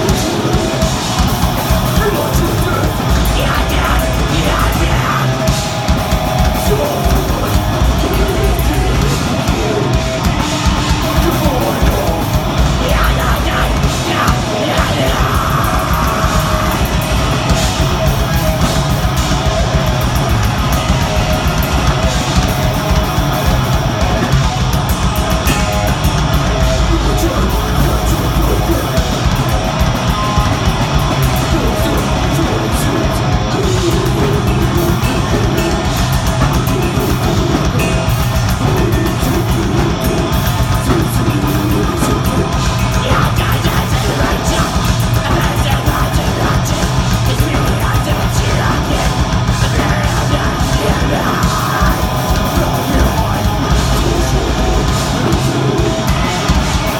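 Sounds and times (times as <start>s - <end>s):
screamed vocals: 0.0s - 24.4s, 26.0s - 56.9s
bass guitar: 0.0s - 56.9s
distorted guitars: 0.0s - 56.9s
very fast drumming: 0.0s - 56.9s.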